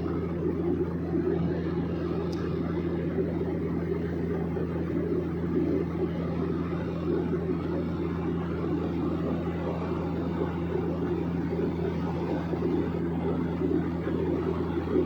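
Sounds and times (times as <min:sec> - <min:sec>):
small airplane engine droning: 0:00.0 - 0:15.0.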